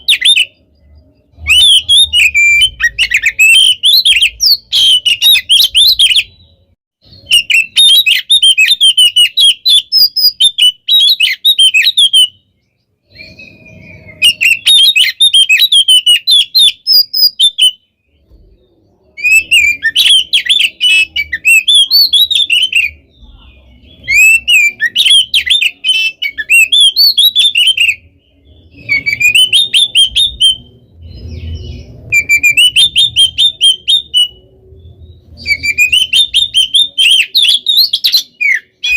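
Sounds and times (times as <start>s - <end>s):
bird singing chirps and trills: 0.0s - 38.9s.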